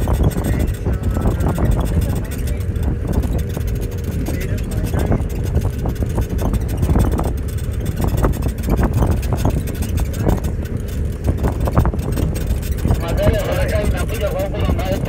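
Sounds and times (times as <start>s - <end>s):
herd of hooves galloping: 0.0s - 15.0s.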